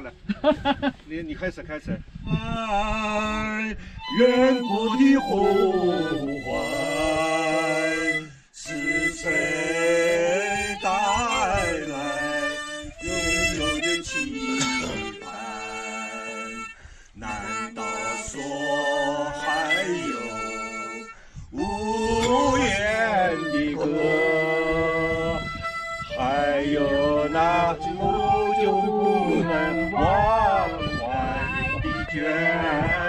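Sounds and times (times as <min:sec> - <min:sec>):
harmonica melody: 0:04.0 - 0:33.0.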